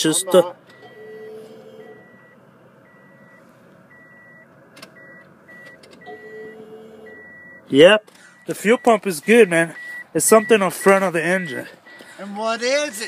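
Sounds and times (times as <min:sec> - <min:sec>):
car warning chime beeping: 0:00.0 - 0:13.0.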